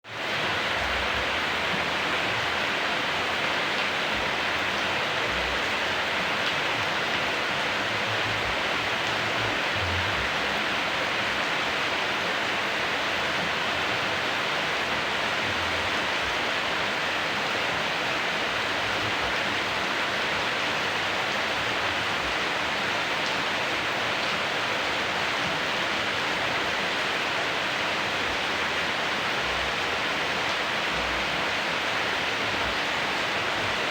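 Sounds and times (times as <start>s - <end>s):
heavy rain hissing: 0.1s - 33.9s.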